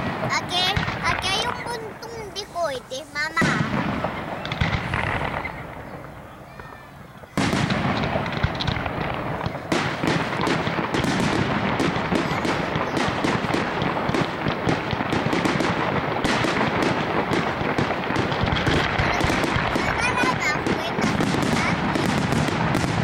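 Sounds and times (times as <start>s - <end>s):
fireworks bursting and crackling: 0.0s - 23.0s.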